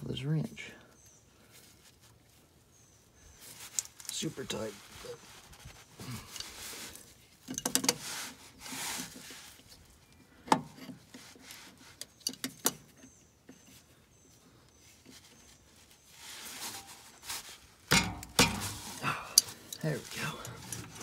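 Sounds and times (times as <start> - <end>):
rustling: 1.0 - 21.0.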